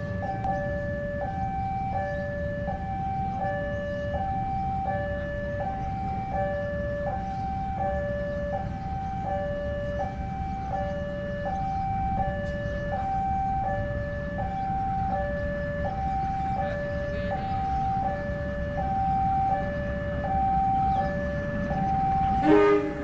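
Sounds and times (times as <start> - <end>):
level-crossing two-tone alarm: 0.0 - 23.0.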